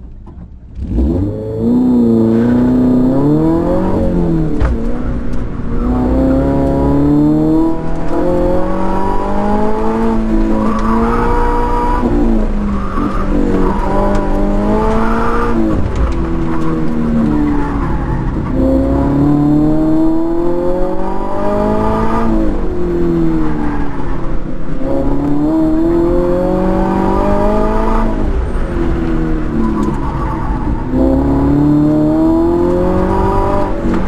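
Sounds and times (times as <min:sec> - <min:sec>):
car engine revving at full throttle: 0:00.6 - 0:34.0.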